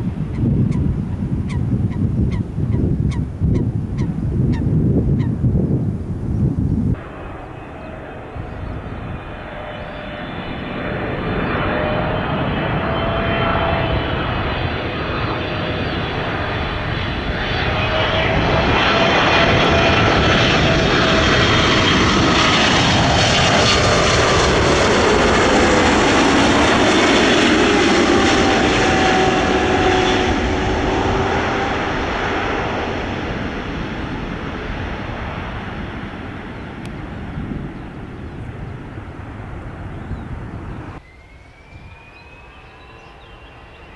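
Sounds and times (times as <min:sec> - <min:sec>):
airliner engines passing: 0:00.0 - 0:43.9.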